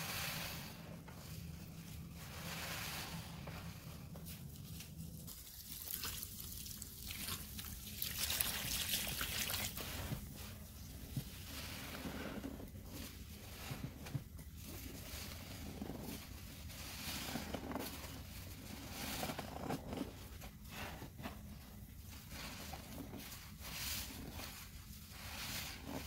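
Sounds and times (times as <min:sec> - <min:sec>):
foam sponges squelching in suds: 0:00.0 - 0:26.0.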